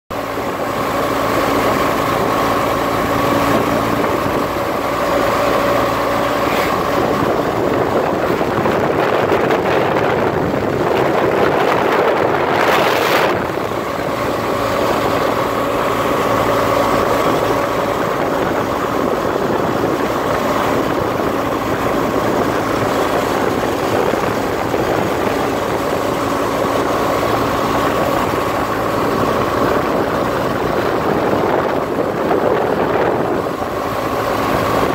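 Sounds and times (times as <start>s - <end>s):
wind rush: 0.1s - 34.9s
loud whoosh: 0.3s - 34.9s.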